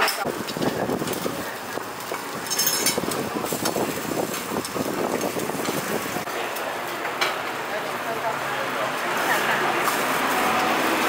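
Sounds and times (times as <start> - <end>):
griddle sizzling: 0.0 - 11.0.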